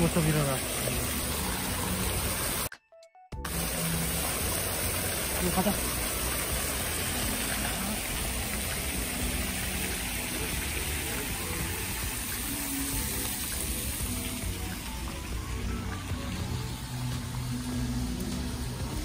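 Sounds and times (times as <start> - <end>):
fountain water rushing: 0.0 - 2.7, 3.5 - 19.0
faint music: 3.4 - 19.0.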